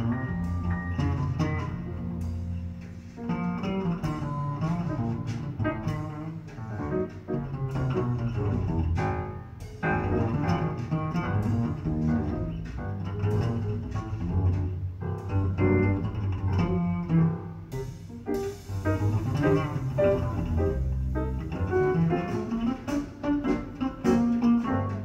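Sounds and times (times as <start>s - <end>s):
acoustic music through speakers: 0.0s - 25.0s
double bass: 0.0s - 25.0s.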